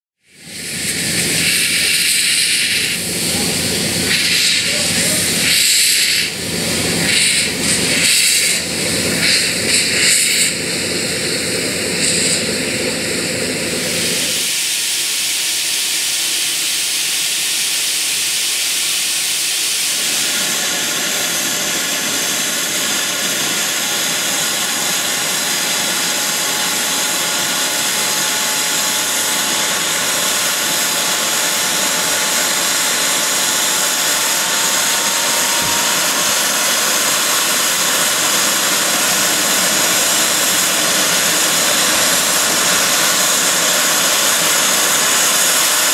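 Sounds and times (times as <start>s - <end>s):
steam locomotive hissing steam: 0.2s - 45.9s.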